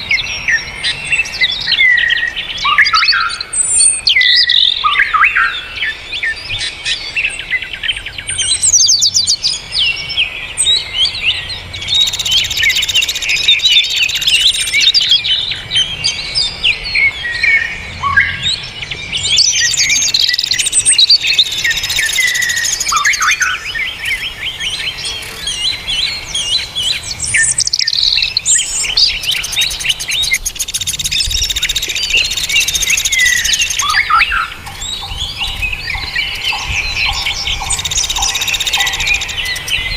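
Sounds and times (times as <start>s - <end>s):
chorus of songbirds singing: 0.0s - 39.9s.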